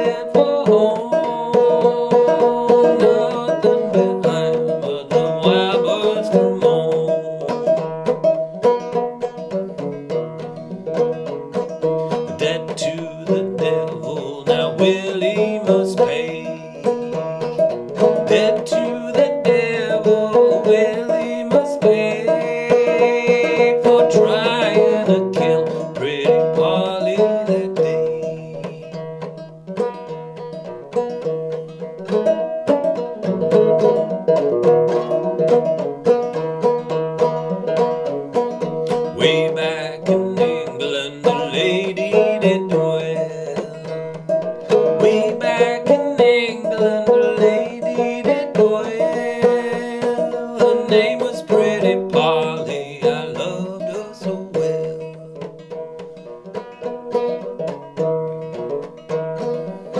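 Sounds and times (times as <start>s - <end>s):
banjo picked tune: 0.0s - 59.9s.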